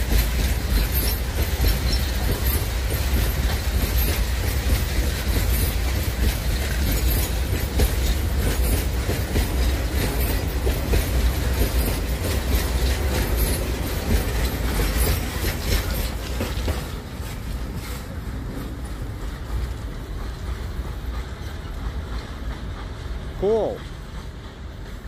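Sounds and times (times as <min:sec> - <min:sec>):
freight train rumbling past: 0:00.0 - 0:25.0
wheels clicking over rail joints: 0:00.0 - 0:25.0.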